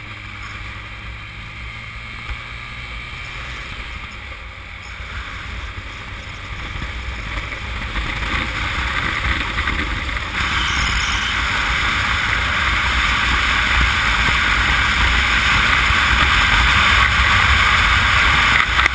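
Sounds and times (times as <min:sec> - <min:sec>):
motorcycle engine: 0:00.0 - 0:18.9
road noise: 0:00.0 - 0:18.9.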